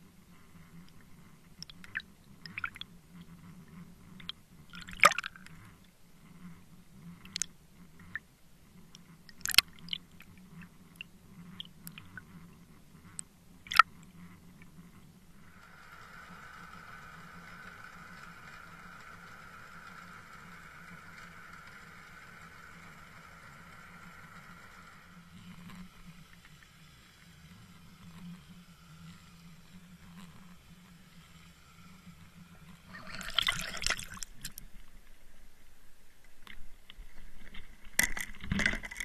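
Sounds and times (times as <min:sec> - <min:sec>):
high steady hiss: 0:00.0 - 0:38.5
steady low underwater hum: 0:00.0 - 0:39.0.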